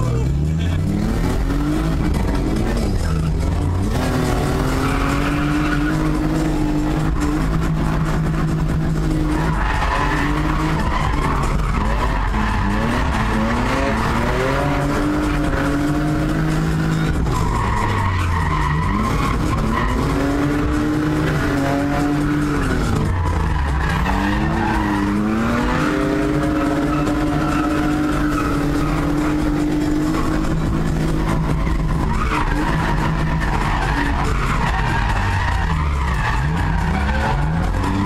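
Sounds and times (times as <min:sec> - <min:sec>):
car engine revving: 0:00.0 - 0:38.0
tyres squealing: 0:00.0 - 0:38.0.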